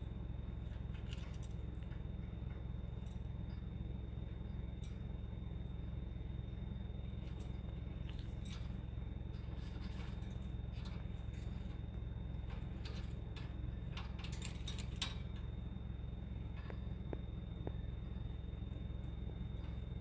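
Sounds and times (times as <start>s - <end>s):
faint high whine: 0.0s - 20.0s
steady low hum: 0.0s - 20.0s.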